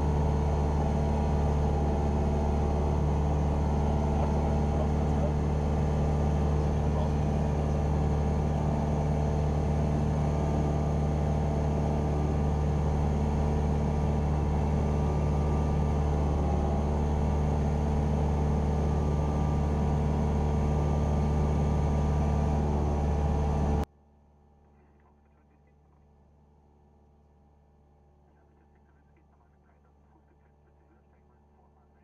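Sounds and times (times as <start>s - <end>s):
airplane engine and propeller droning: 0.0s - 23.9s, 28.2s - 32.0s.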